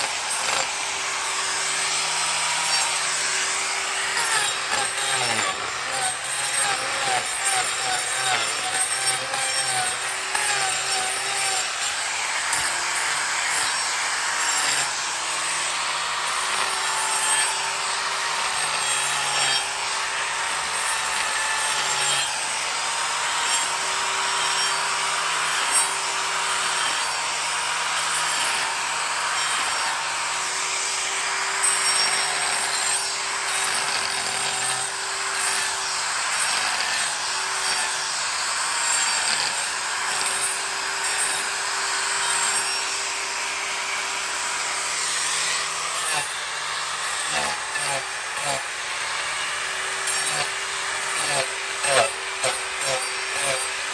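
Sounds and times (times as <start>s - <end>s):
angle grinder grinding wood: 0.0s - 53.9s.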